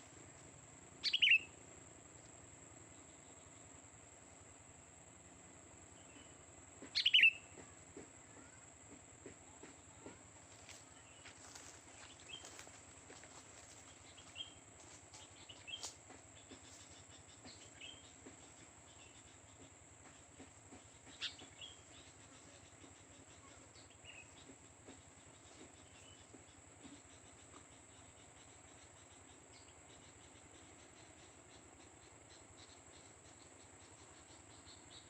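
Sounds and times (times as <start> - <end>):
steady high-pitched hiss: 0.0 - 35.0
faint bird chirps: 1.0 - 1.6, 5.9 - 8.7, 9.4 - 35.0.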